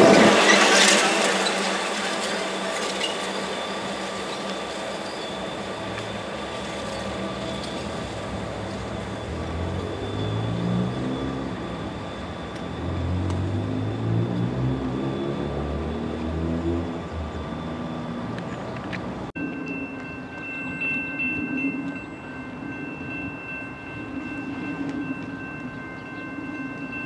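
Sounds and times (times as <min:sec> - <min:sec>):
diesel locomotive engine and wheels: 0:00.0 - 0:27.0.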